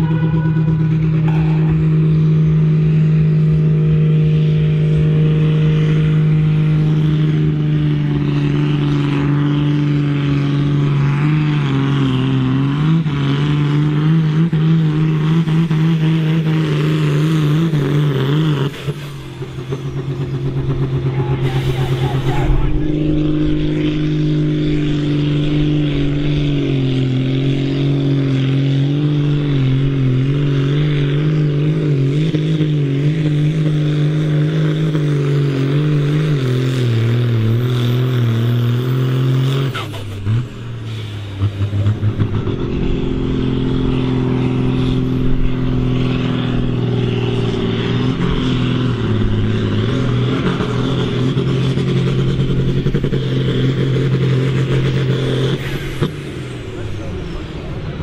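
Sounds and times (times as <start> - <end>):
tractor diesel engines working hard: 0.0 - 58.0.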